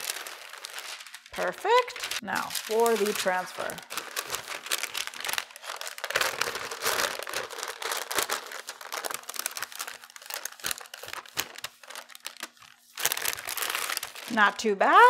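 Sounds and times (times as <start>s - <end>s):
paper crinkling and rustling: 0.0s - 14.5s.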